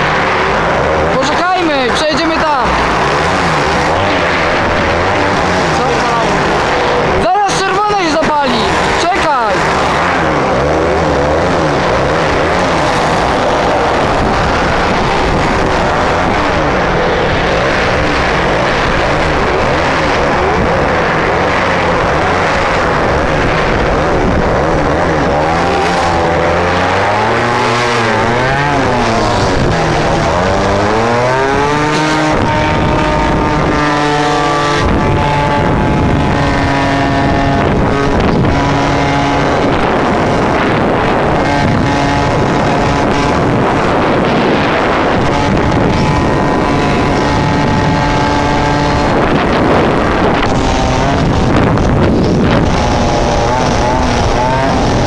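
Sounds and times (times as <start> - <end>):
two-stroke motorcycle engine: 0.0 - 55.0
wind noise on microphone: 0.0 - 55.0.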